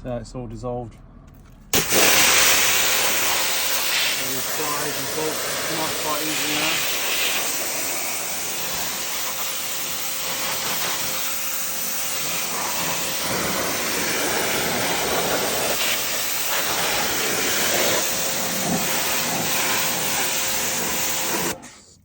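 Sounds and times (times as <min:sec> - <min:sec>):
pressure washer spraying water: 0:01.8 - 0:21.6.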